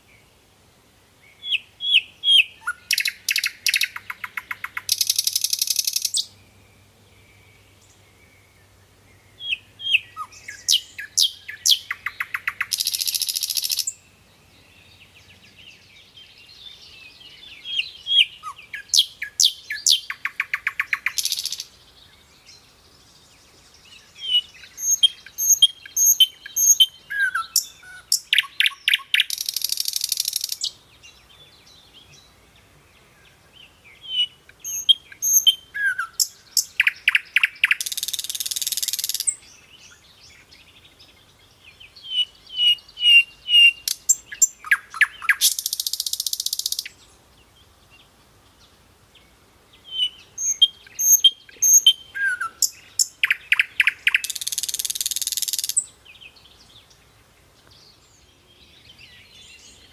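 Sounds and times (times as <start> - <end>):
songbird chirping and trilling: 1.1 - 59.9
faint high bird chirps: 1.2 - 32.4, 33.0 - 59.9.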